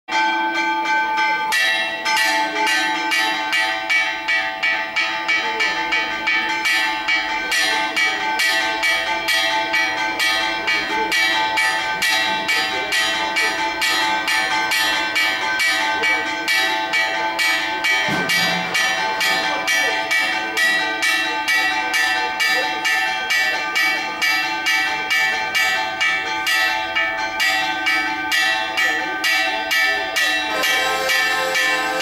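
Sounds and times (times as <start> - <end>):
church bells pealing: 0.1 - 32.0.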